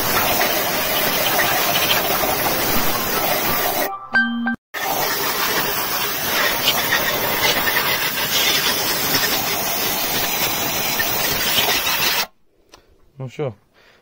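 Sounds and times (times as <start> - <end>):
compressed air blow gun hissing: 0.0 - 3.9, 4.8 - 12.4.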